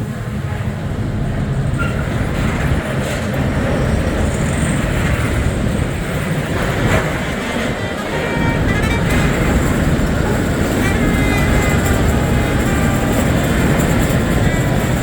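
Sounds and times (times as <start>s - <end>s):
train wheels running on rails: 0.0s - 15.0s.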